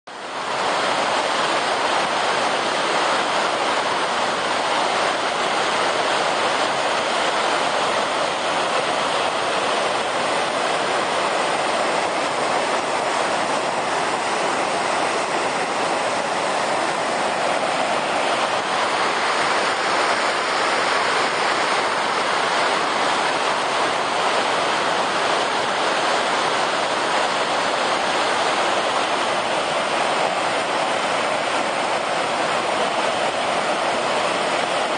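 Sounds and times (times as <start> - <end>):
river rushing over spillway: 0.1 - 34.9.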